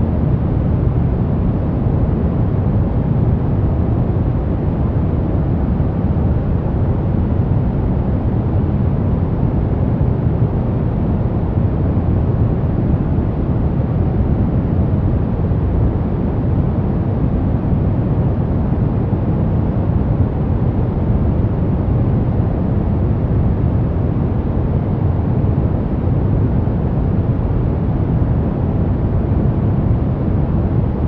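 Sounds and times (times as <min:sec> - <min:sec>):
deep low white noise: 0:00.0 - 0:31.0.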